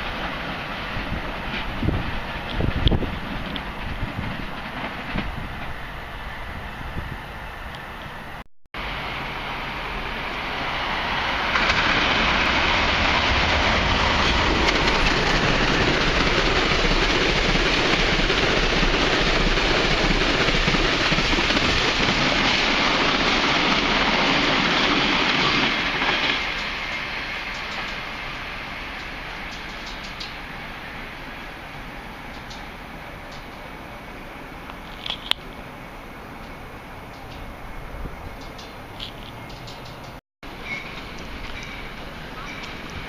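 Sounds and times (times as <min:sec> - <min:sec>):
train wheel and rail noise: 0:00.0 - 0:43.0.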